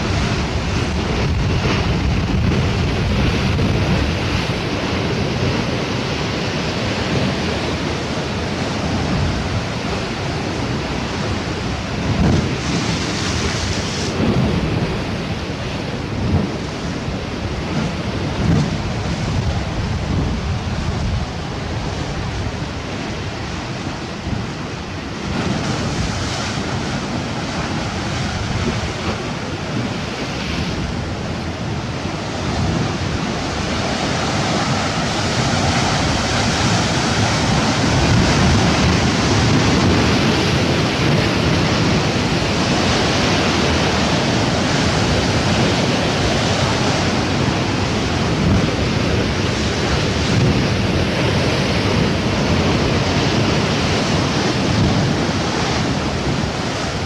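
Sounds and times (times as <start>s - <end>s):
sea surf washing: 0.0s - 57.0s
wind buffeting microphone: 0.0s - 57.0s.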